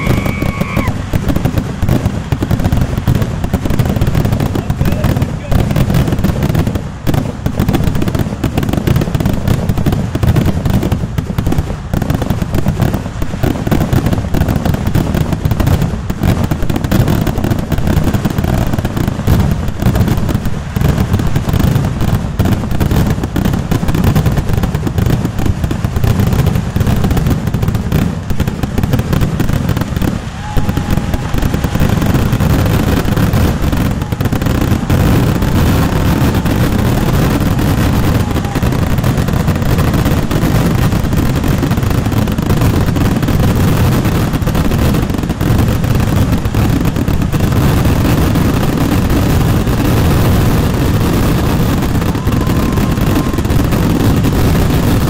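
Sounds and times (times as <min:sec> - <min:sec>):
deep fireworks booms: 0:00.0 - 0:55.0
firecracker blasts crackling: 0:00.0 - 0:55.0.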